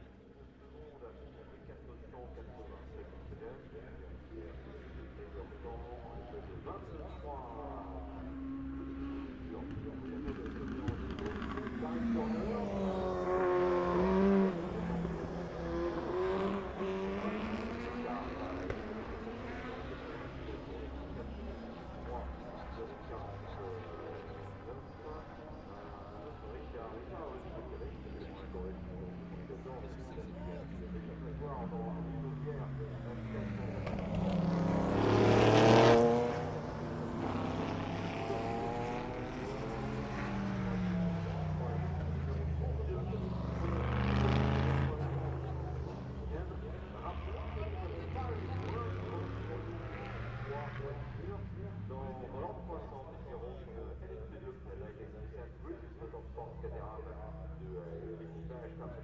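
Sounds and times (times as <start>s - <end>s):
race car engine accelerating: 4.0s - 59.0s.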